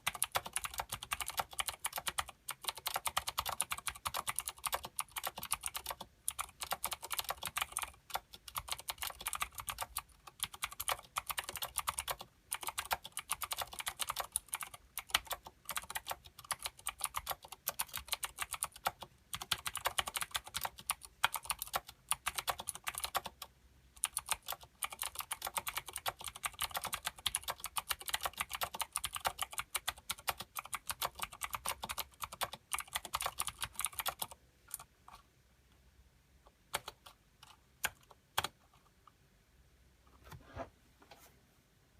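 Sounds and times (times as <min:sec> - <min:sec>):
mechanical keyboard typing: 0:00.0 - 0:35.2, 0:36.7 - 0:38.6.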